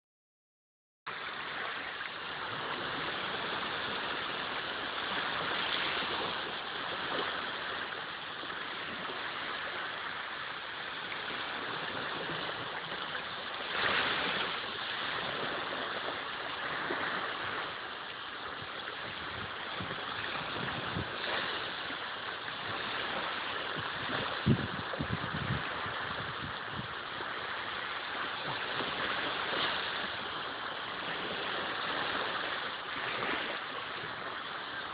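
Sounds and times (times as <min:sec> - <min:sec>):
small waves breaking on beach: 0:01.1 - 0:34.9.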